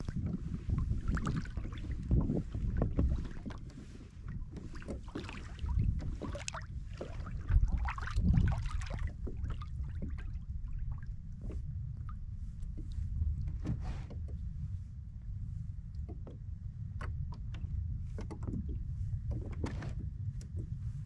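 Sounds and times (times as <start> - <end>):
small waves slapping hull: 0.0 - 21.0
wind rumble on microphone: 0.0 - 21.0.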